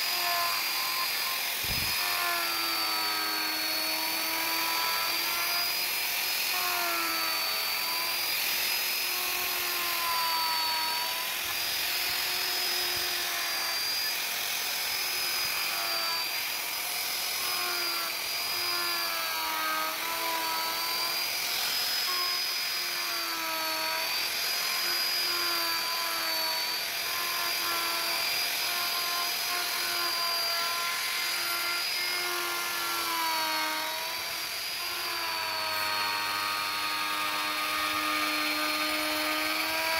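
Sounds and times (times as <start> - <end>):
wood router whining: 0.0 - 39.9.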